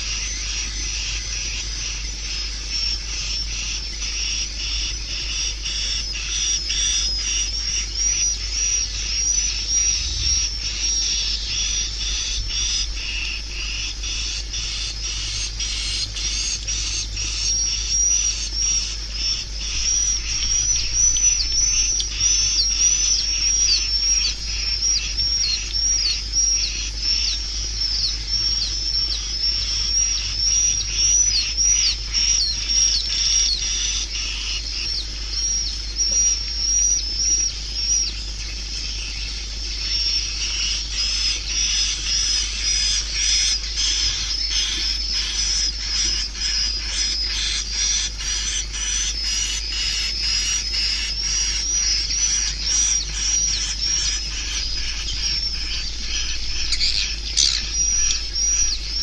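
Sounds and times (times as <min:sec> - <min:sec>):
steady low hum: 0:00.0 - 0:59.0
swiftlet chirps and twitters: 0:00.0 - 0:59.0.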